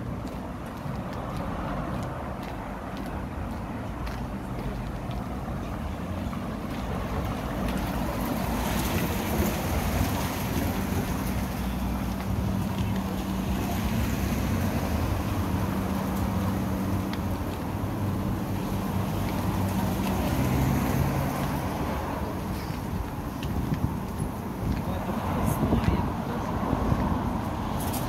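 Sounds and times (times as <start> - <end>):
street traffic: 0.0 - 28.0
vehicle engine humming: 0.0 - 28.0.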